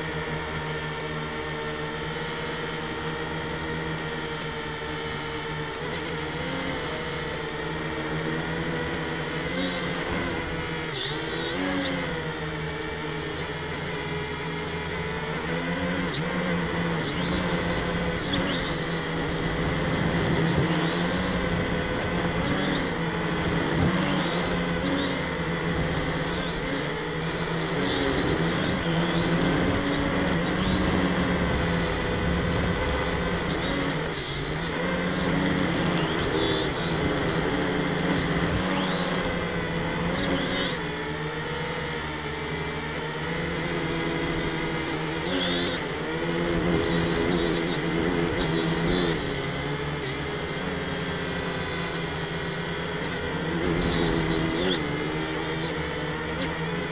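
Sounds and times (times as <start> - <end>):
drone motors whining: 0.0 - 56.9.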